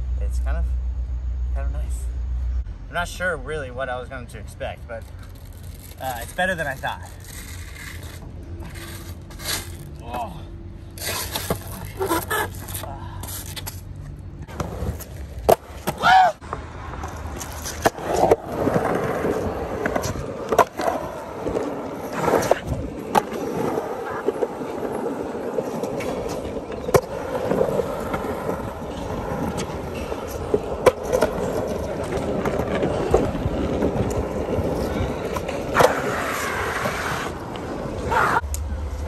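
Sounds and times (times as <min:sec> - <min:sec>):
skateboard wheels rolling on pavement: 0:02.3 - 0:39.0.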